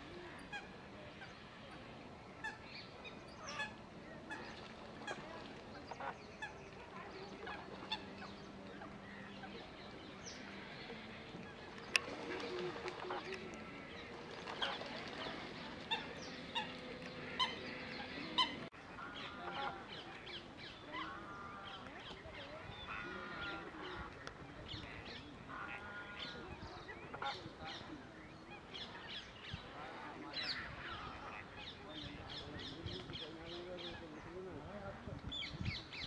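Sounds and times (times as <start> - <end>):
wetland birds calling: 0.2 - 34.4.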